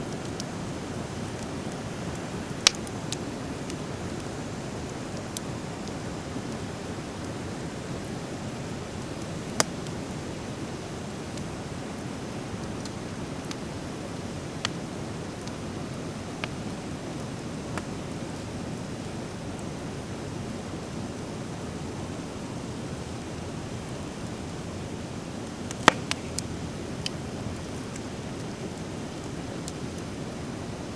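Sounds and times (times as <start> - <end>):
fire burning with crackling pops: 0.0 - 30.9.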